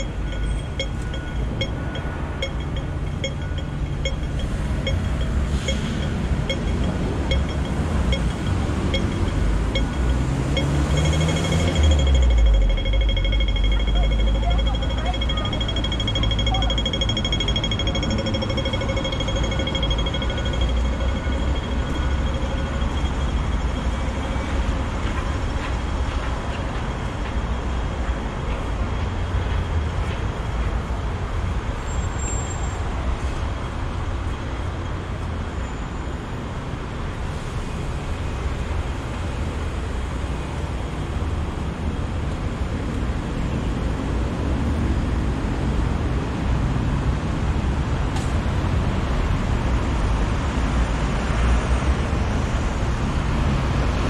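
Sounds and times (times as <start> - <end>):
road traffic: 0.0 - 54.0.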